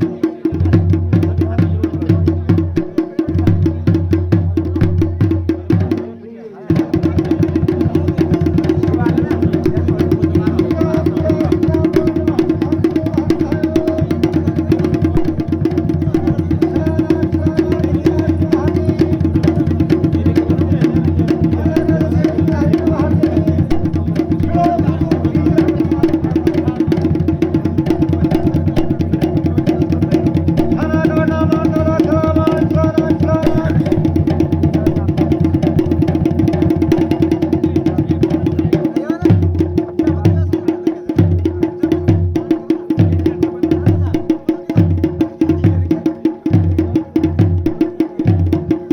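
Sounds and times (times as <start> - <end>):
drums playing a fast beat: 0.0 - 48.9.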